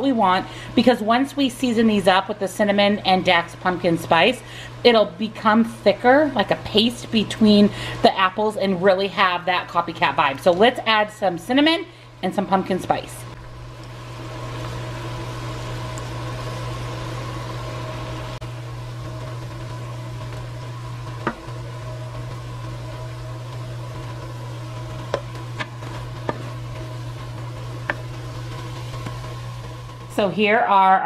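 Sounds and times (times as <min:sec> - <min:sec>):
apples simmering in a pan: 0:00.0 - 0:31.0
mechanical hum: 0:00.0 - 0:31.0.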